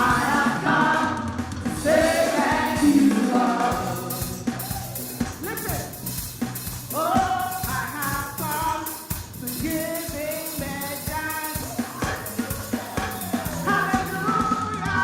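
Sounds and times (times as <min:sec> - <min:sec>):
gospel singing over a band: 0:00.0 - 0:05.3, 0:06.9 - 0:15.0.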